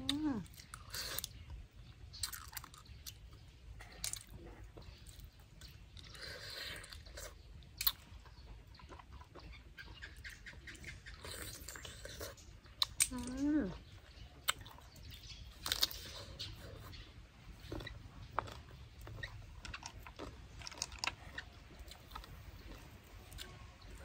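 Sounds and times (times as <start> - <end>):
person chewing wetly: 0.0 - 24.0.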